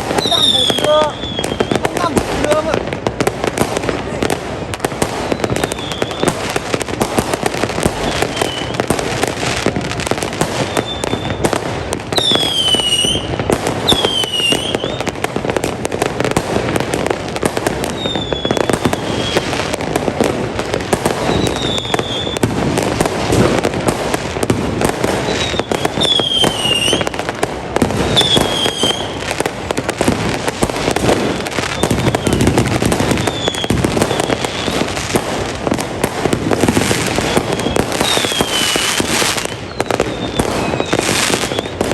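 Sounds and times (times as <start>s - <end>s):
fireworks bangs and crackles: 0.0s - 41.9s
whistling fireworks: 0.0s - 41.9s.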